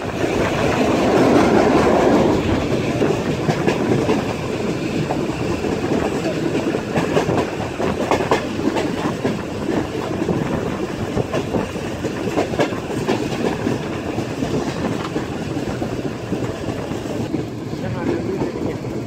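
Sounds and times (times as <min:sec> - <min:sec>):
clacks over rail joints: 0:00.0 - 0:19.0
train wheels rumbling on rails: 0:00.0 - 0:19.0.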